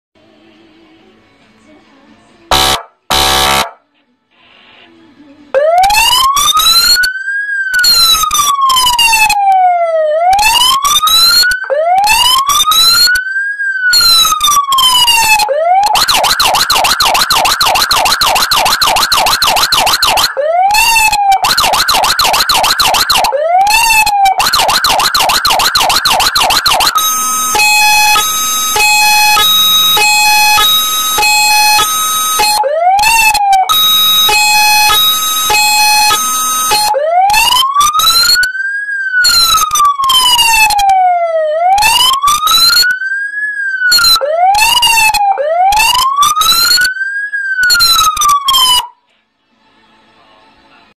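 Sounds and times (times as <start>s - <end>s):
electronic siren wail: 2.5s - 3.8s, 5.6s - 49.0s
siren chirps: 2.5s - 3.8s, 5.6s - 49.0s
siren stepping between pitches: 2.5s - 3.8s, 5.6s - 49.0s
siren yelp: 2.5s - 3.8s, 5.6s - 49.0s.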